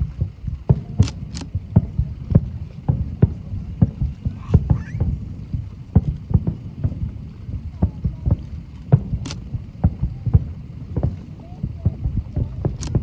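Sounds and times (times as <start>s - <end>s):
fireworks booming: 0.0s - 13.0s
sharp firework crack: 0.0s - 13.0s.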